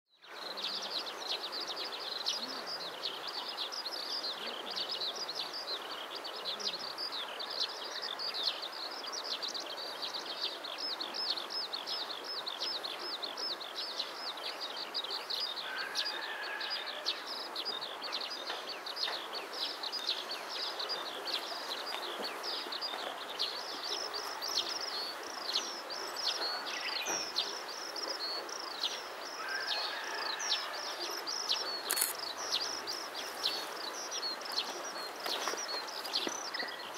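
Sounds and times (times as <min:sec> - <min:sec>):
birds chirping: 0:00.1 - 0:36.9
outdoor background hiss: 0:00.2 - 0:36.9.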